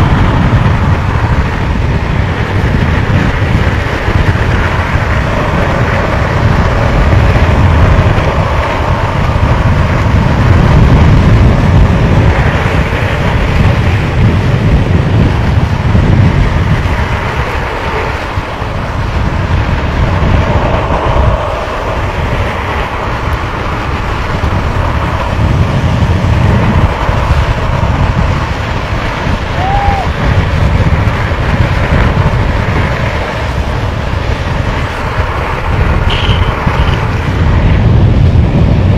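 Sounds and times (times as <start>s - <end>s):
wheels rolling on asphalt: 0.0s - 38.9s
wind rushing over microphone: 0.0s - 38.9s.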